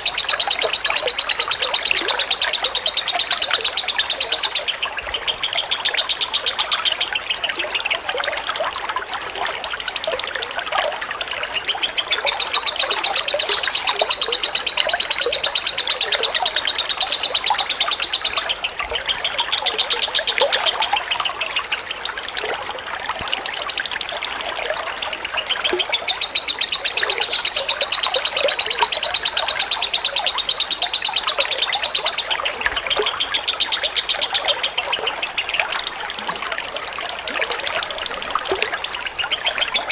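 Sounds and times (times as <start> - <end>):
bird chattering trill: 0.0 - 39.9
water trickling: 0.0 - 39.9.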